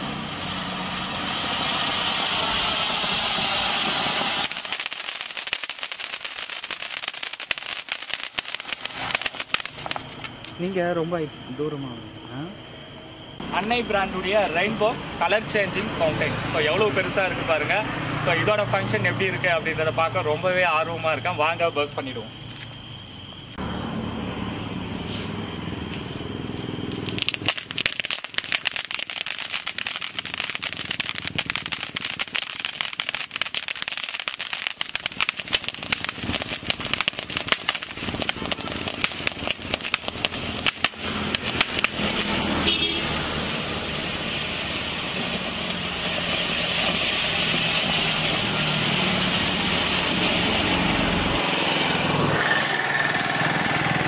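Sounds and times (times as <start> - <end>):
firework fountain hissing and crackling: 0.0 - 12.2, 13.2 - 54.0.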